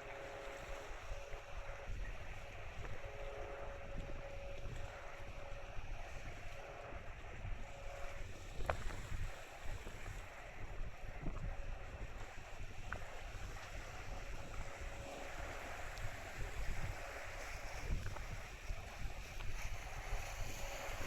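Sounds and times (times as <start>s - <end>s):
faint steady hum: 0.0s - 21.0s
wind buffeting microphone: 0.4s - 21.0s.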